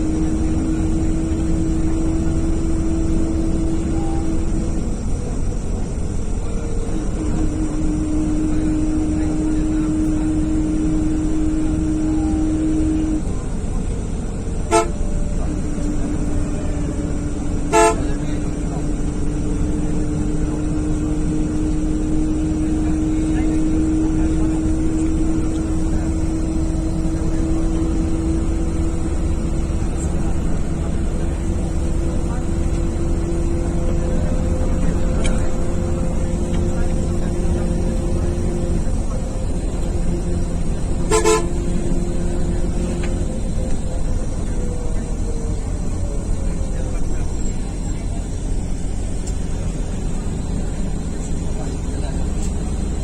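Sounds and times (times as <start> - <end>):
engine hum: 0.0 - 53.0.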